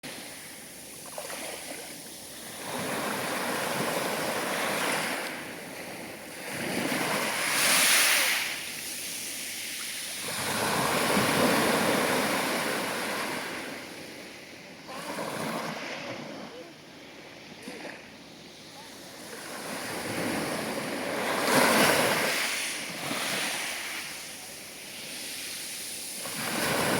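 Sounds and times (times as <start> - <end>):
sea waves breaking: 0.0 - 14.3, 14.9 - 16.6, 17.6 - 26.9.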